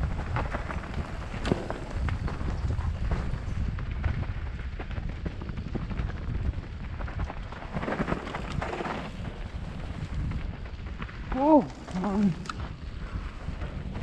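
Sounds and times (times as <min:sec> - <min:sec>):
bike knocking and rattling: 0:00.0 - 0:14.0
tyres rolling over dirt: 0:00.0 - 0:14.0
wind rumbling on microphone: 0:00.0 - 0:14.0.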